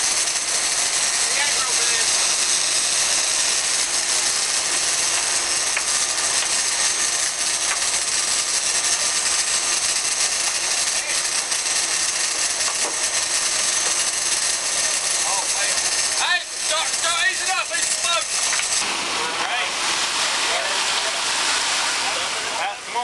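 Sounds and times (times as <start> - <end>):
fishing reel drag buzzing: 0.0 - 18.8.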